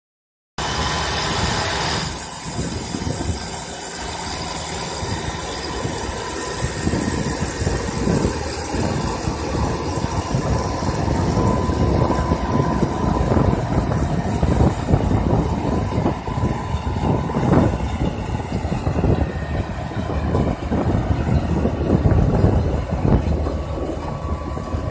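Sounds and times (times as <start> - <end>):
tractor diesel engine under load: 0.6 - 24.9.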